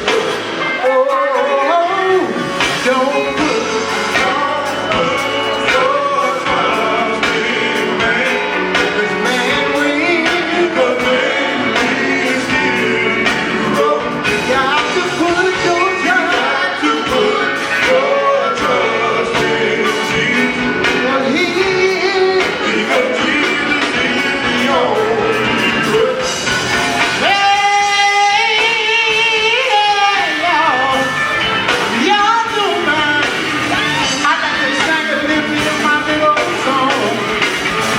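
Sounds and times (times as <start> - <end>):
band accompaniment: 0.0 - 37.9
male vocal group singing gospel: 0.0 - 37.9
steady drum beat: 0.0 - 37.9.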